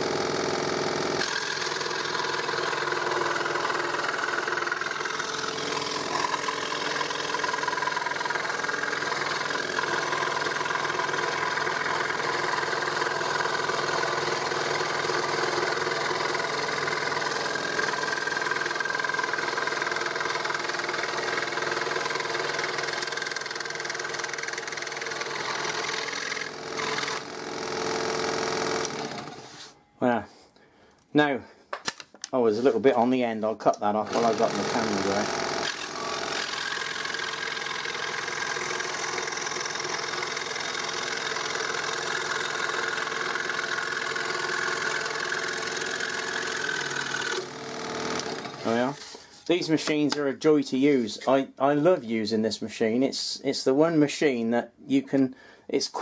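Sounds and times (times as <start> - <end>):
scroll saw cutting wood: 0.0 - 29.8, 34.0 - 50.3.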